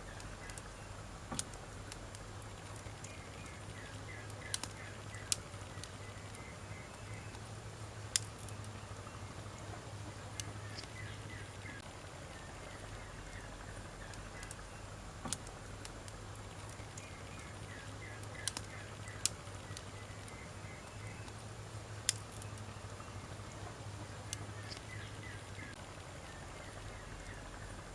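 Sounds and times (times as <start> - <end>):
campfire crackling: 0.0 - 27.9.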